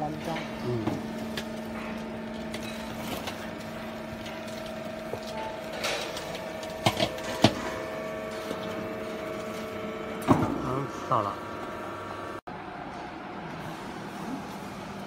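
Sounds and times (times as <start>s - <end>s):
hydraulic baler humming: 0.0s - 15.0s.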